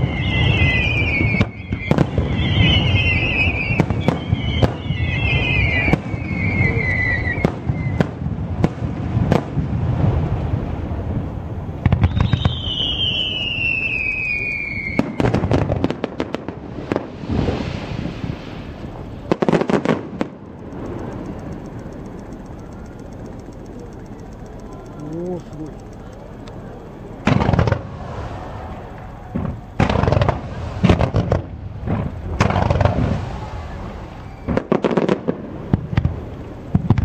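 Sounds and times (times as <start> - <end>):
whistling firework shells: 0.0 - 10.5, 11.8 - 37.0
firework bursts and bangs: 0.0 - 21.8, 27.2 - 37.0
continuous rumble: 0.0 - 37.0.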